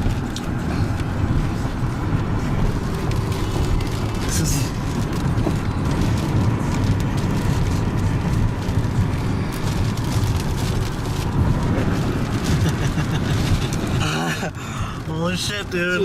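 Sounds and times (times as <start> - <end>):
heavy rain on a car: 0.0 - 16.0
wind buffeting a car: 0.0 - 16.0.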